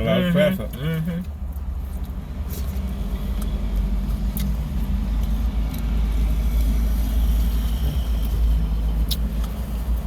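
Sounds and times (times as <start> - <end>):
highway traffic rumble from inside car: 0.0 - 10.0.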